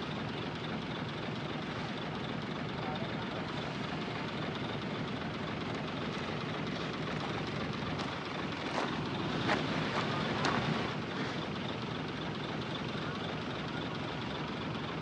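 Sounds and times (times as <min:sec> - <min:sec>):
diesel machinery running: 0:00.0 - 0:15.0.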